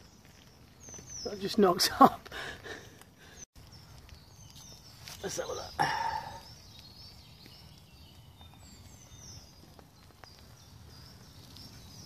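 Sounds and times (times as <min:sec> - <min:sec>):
birds whistling: 0:00.0 - 0:12.0.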